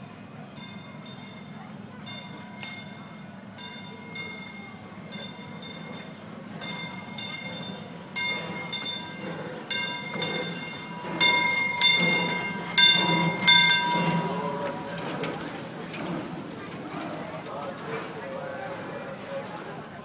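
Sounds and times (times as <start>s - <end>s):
low train rumble: 0.0s - 20.0s
locomotive bell ringing: 0.2s - 20.0s.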